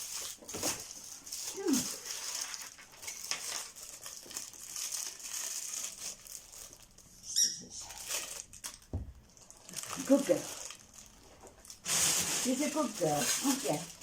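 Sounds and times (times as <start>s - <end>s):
plastic packaging crinkling: 0.0s - 7.2s, 7.8s - 14.0s.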